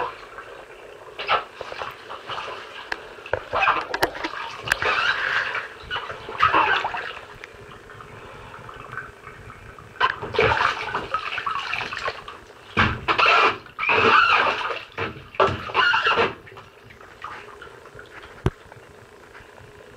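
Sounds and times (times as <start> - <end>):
bathwater sloshing and splashing: 0.0 - 19.8.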